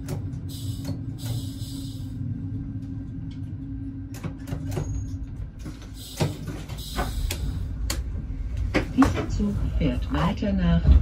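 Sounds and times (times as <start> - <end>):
train engine hum: 0.0 - 11.0.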